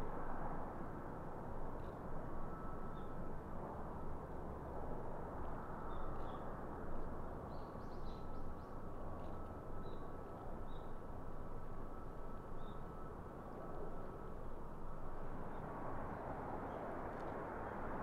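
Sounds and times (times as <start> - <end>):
distant jet airliner engine rumble: 0.0 - 18.0.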